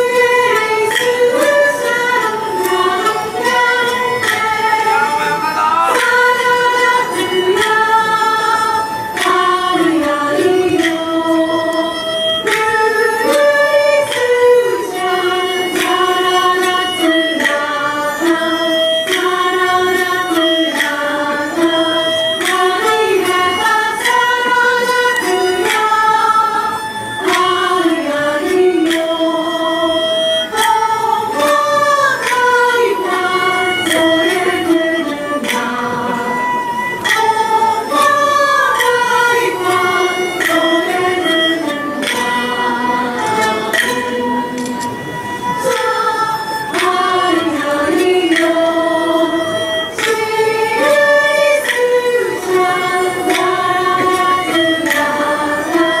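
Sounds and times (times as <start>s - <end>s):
lutes and string instruments: 0.0s - 56.0s
voices singing together: 0.0s - 56.0s.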